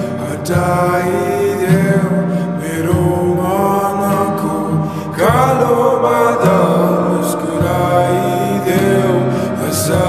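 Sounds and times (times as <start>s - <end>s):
slowed reverb pop song: 0.0s - 10.0s.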